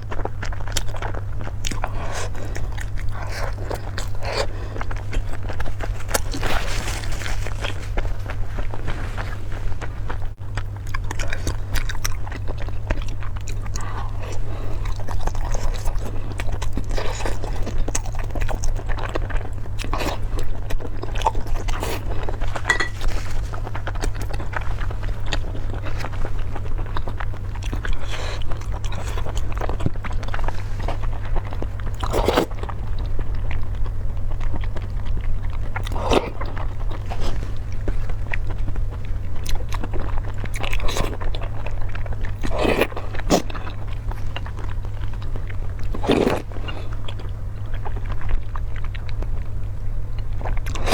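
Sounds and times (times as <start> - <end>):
person chewing crunchy food: 0.0 - 50.9
steady low hum: 0.0 - 50.9.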